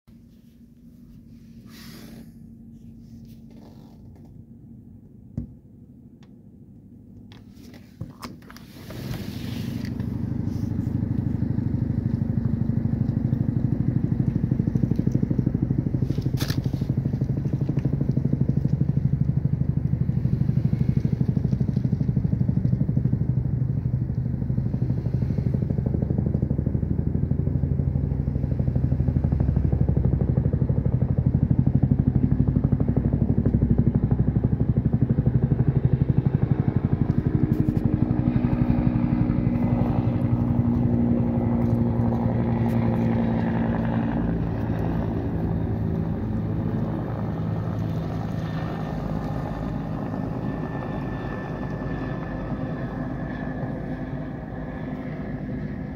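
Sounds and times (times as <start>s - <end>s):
helicopter rotor beating: 0.8s - 55.9s.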